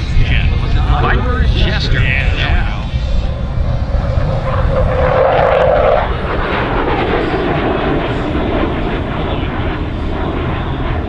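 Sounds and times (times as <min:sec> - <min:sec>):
jet engine roaring overhead: 0:00.0 - 0:11.0.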